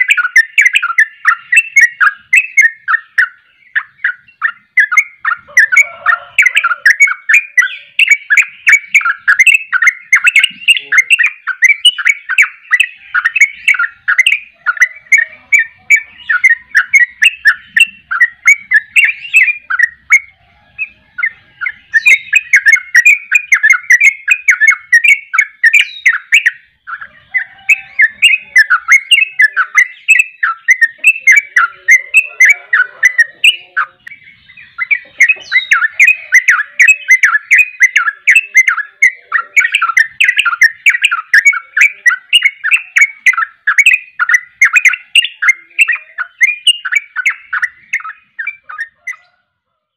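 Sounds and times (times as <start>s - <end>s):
bulbul singing chattering notes: 0.0s - 49.4s.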